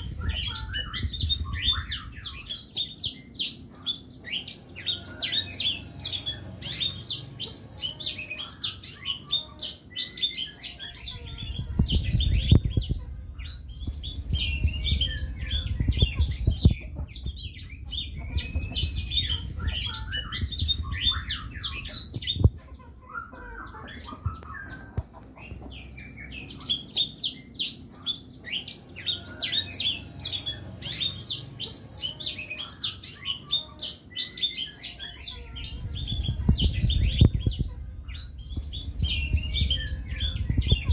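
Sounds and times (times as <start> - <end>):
bird twittering trills: 0.0 - 40.9.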